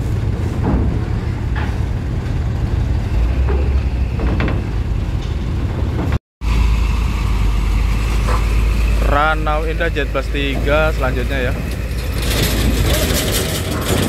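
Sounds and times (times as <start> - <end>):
bus diesel engine rumbling: 0.0 - 14.0
truck diesel engines running: 0.0 - 14.0.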